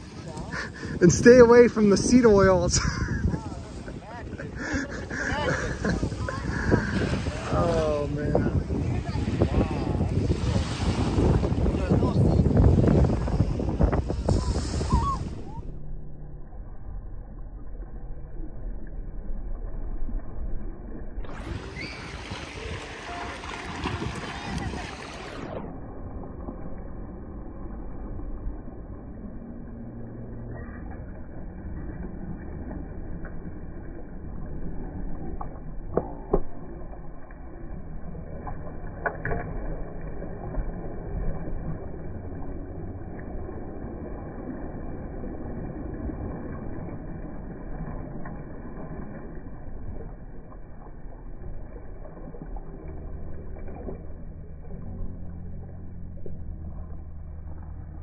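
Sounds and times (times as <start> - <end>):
muffled jet ski engine: 0.0 - 58.0.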